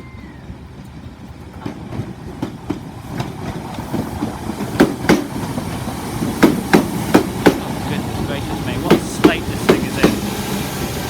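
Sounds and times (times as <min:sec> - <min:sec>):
electric train rumbling: 0:00.0 - 0:11.0
wheels clicking over track joints: 0:00.7 - 0:10.3.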